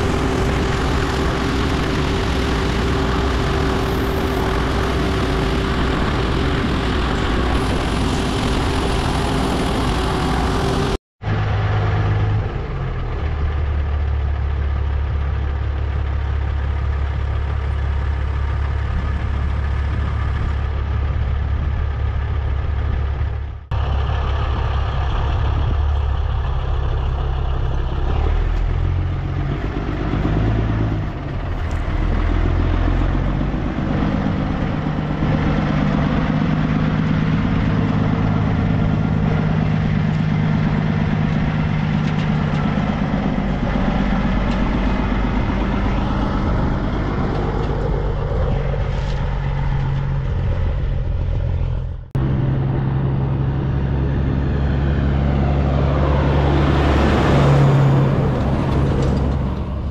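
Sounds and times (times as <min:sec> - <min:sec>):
truck diesel engine: 0:00.0 - 0:59.9.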